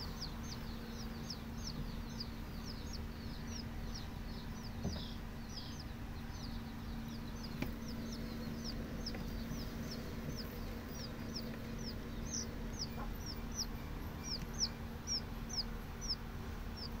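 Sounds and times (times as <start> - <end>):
chick peeping: 0.0 - 17.0.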